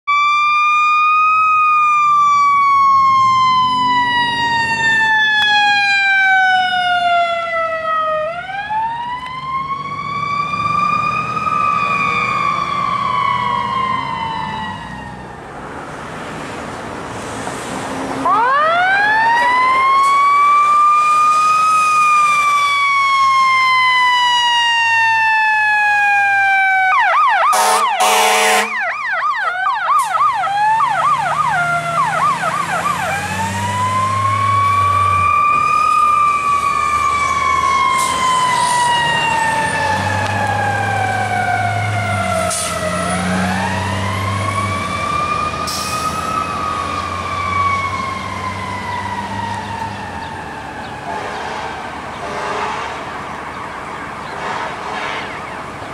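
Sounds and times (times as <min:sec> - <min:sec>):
fire truck siren wailing: 0:00.0 - 0:17.1, 0:17.8 - 0:55.9
siren yelp with sharp blasts: 0:00.1 - 0:15.2, 0:18.2 - 0:55.9.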